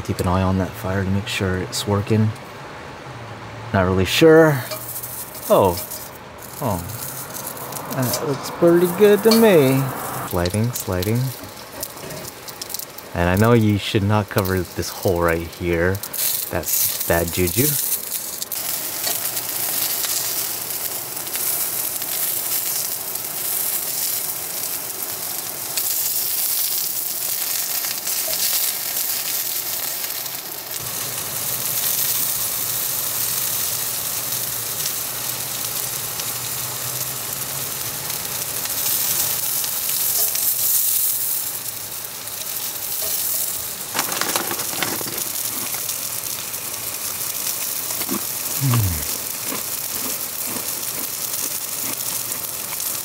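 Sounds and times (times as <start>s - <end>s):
sausages sizzling in a pan: 4.4s - 53.0s.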